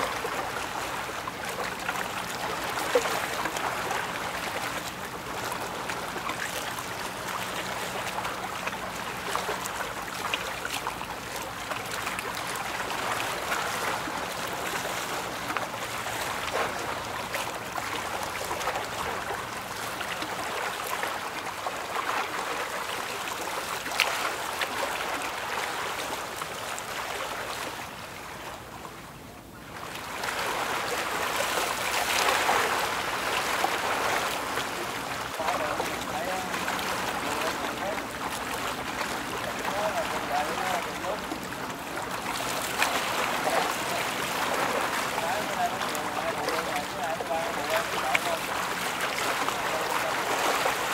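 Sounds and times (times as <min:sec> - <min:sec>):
bow wave rushing along hull: 0:00.0 - 0:50.9.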